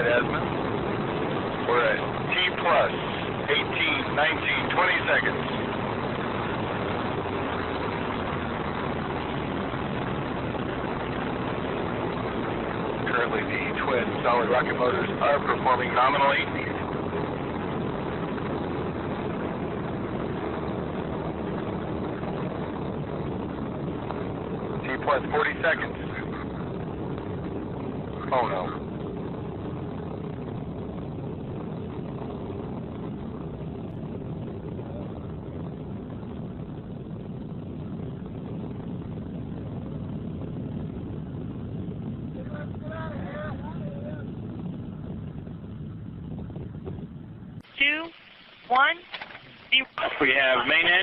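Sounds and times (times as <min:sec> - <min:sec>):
rocket engine rumble: 0:00.0 - 0:51.0.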